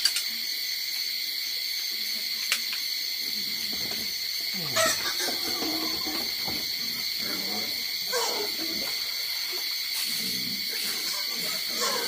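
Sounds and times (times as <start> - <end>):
crickets chirping drone: 0.0 - 12.0.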